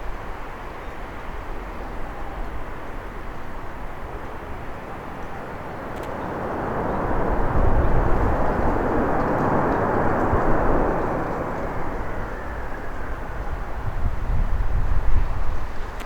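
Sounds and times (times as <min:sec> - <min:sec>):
jet airliner engine landing: 0:01.3 - 0:16.0.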